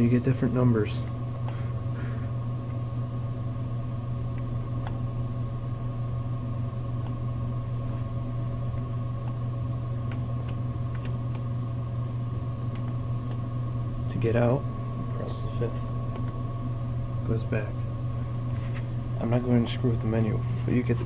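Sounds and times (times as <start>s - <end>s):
vending machine cooling hum: 0.0s - 21.0s.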